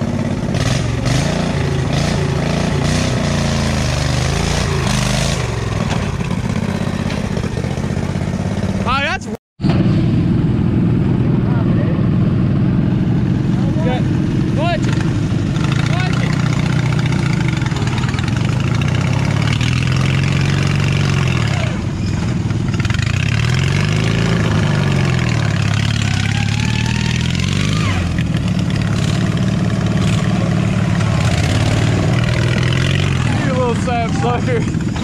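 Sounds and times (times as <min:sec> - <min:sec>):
lawn tractor engine working hard: 0:00.0 - 0:08.9, 0:09.6 - 0:35.0.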